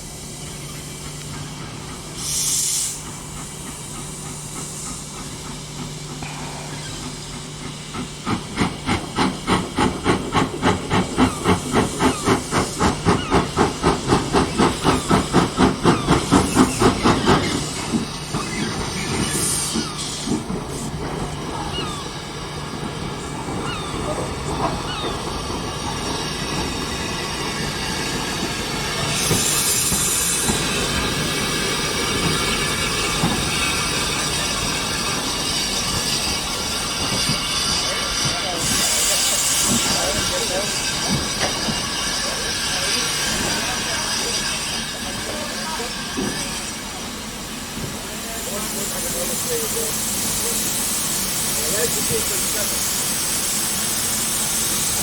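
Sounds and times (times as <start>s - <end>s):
steam hissing: 0.0s - 55.0s
steam locomotive exhaust chuffs: 0.0s - 55.0s
train running rumble: 0.0s - 55.0s.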